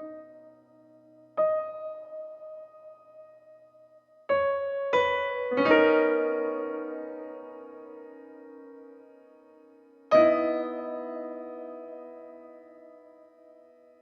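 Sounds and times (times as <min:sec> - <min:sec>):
soft piano-like keyboard notes: 0:00.0 - 0:14.0.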